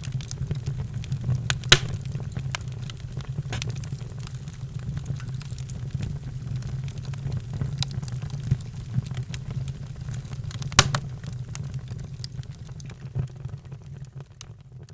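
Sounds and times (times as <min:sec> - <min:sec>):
fire popping: 0:00.0 - 0:14.1
wood fire crackling: 0:00.0 - 0:14.5.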